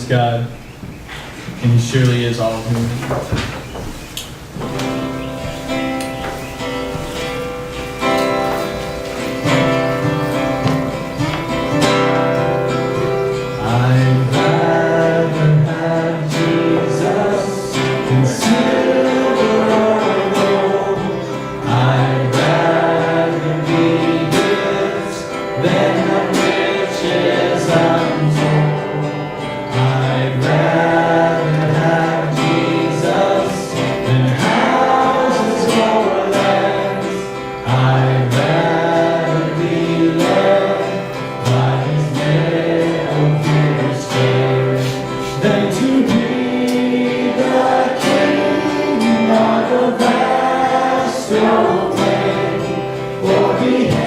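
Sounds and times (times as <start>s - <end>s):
guitar: 0.0s - 54.0s
voices singing together: 2.1s - 54.0s.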